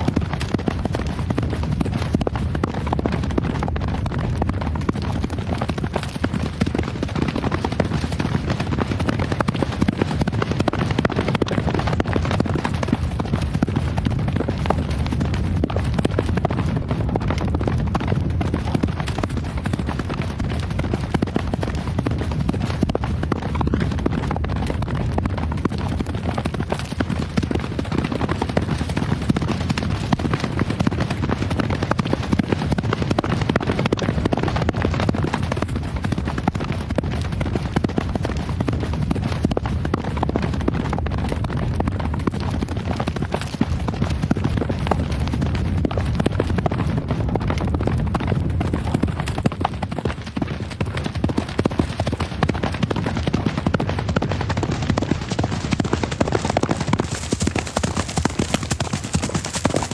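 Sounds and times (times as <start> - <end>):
horse hooves galloping: 0.0 - 59.9.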